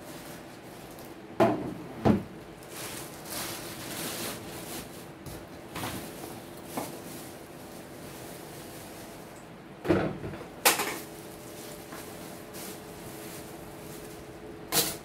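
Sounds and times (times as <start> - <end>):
plastic wrapping rustling: 0.0 - 1.2, 2.4 - 9.6, 10.6 - 15.0.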